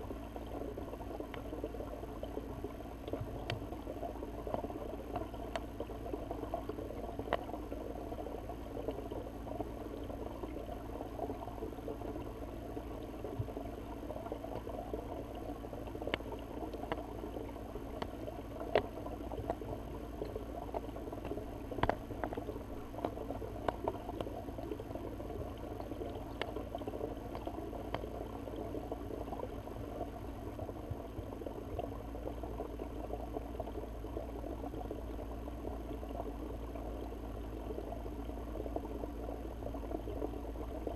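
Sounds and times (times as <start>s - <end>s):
muffled underwater hiss: 0.0s - 40.9s
sharp underwater ticks: 0.0s - 40.9s.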